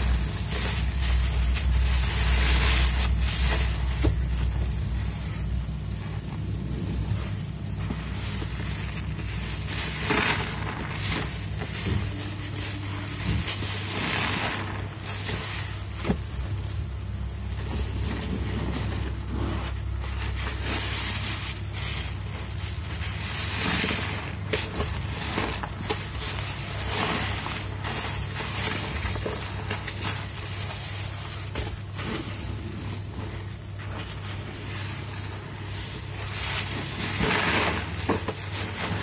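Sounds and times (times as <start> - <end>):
low steady hum: 0.0 - 39.0
squelching soapy sponges: 0.0 - 39.0.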